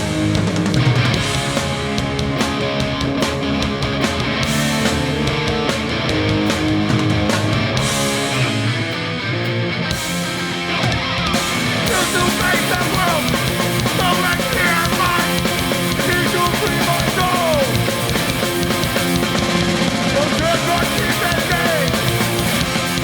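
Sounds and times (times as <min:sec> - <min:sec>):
drums and cymbals: 0:00.0 - 0:09.2, 0:09.9 - 0:23.0
distorted electric guitar: 0:00.0 - 0:23.0
punk band playing live: 0:00.0 - 0:23.0.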